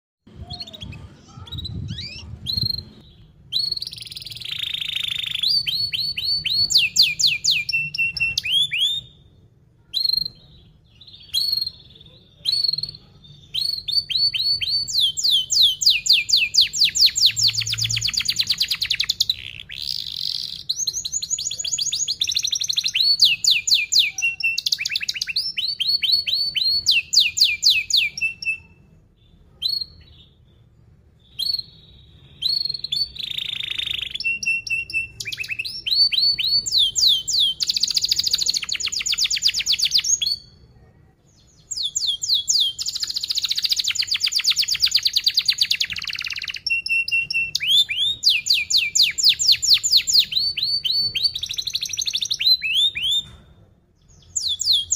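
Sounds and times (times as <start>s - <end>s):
canary singing: 0.3s - 40.6s, 41.3s - 53.4s, 54.0s - 54.9s.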